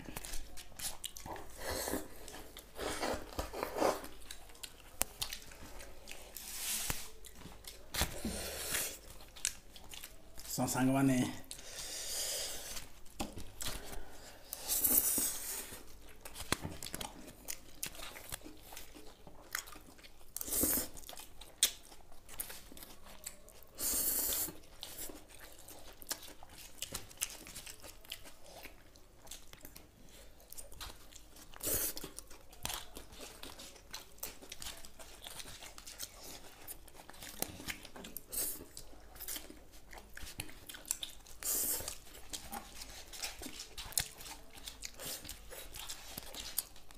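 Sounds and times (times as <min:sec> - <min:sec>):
people chewing and crunching: 0:00.0 - 0:46.9.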